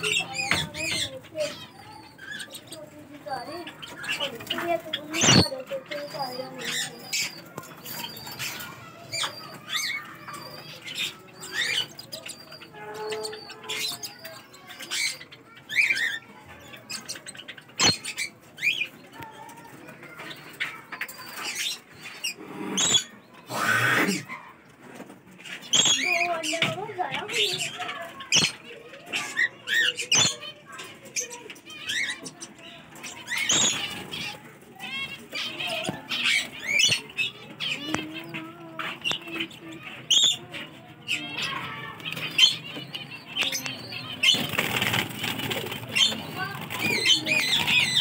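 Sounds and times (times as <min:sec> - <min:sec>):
parrot squawking and chirping: 0:00.0 - 0:19.3, 0:20.0 - 0:24.6, 0:25.4 - 0:48.0.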